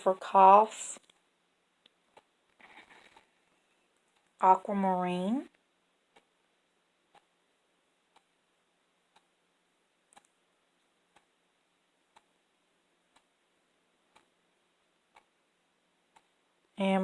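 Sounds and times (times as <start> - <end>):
clock ticking: 1.0 - 3.4, 4.0 - 16.7.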